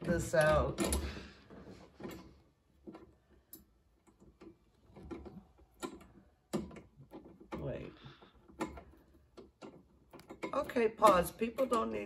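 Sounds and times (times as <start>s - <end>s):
metal hardware clicks and taps: 2.0s - 12.0s.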